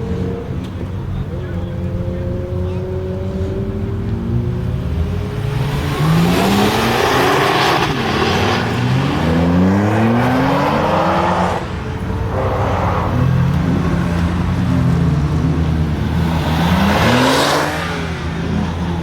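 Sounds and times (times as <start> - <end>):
car engine accelerating through gears: 0.0 - 19.0.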